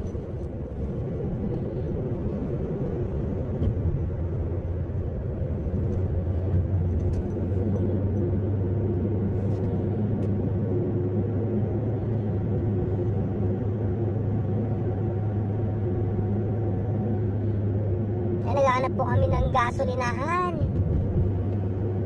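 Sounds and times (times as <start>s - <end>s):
car engine rumble: 0.0s - 22.0s
road noise inside car: 0.0s - 22.0s.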